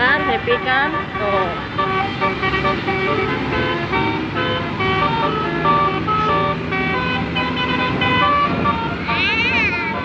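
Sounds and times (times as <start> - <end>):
musical bus horn tune: 0.0 - 10.0.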